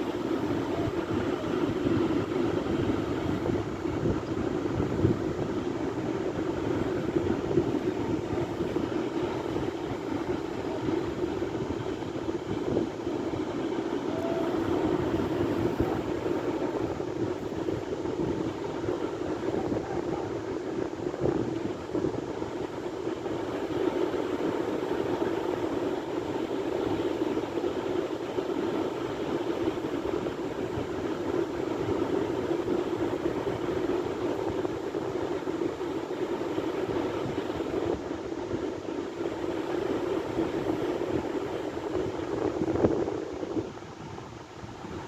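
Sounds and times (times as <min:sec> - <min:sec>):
sea waves washing: 0:00.0 - 0:43.7.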